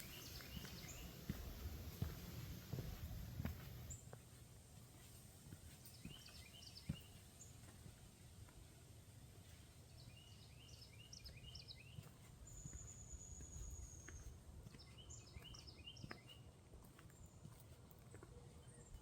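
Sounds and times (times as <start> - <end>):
songbird chirps: 0.0 - 19.0.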